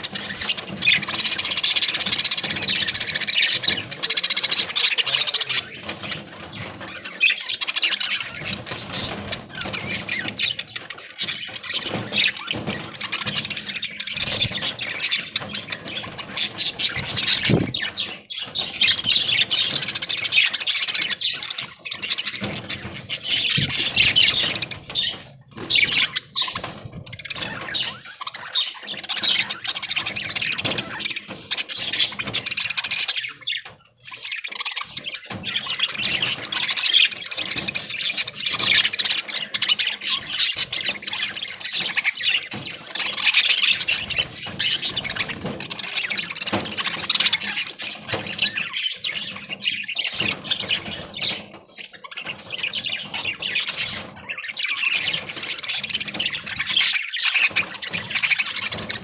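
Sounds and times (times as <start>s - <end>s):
budgerigars chattering and chirping: 0.0s - 59.0s.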